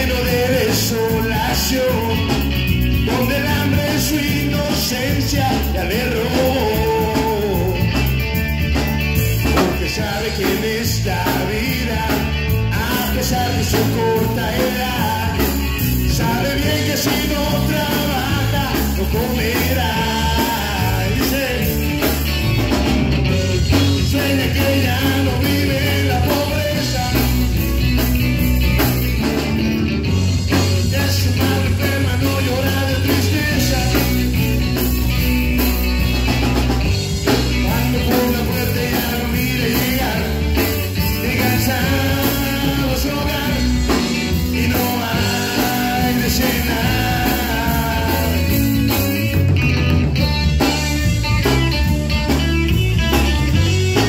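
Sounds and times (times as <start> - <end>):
electric bass: 0.0 - 54.0
live rock band playing: 0.0 - 54.0.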